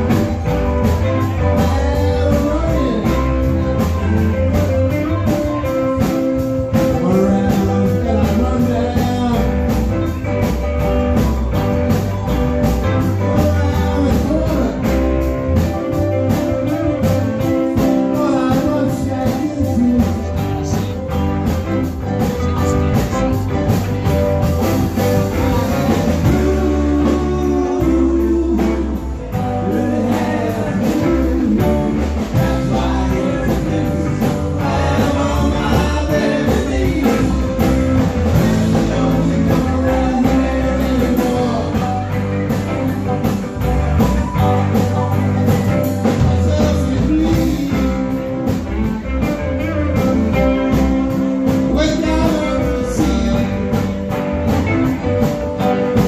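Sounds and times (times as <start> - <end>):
man singing: 0.0 - 10.7, 11.9 - 43.4, 44.4 - 54.6
drum kit beat: 0.0 - 56.0
electric guitars: 0.0 - 56.0
keyboard: 0.0 - 56.0.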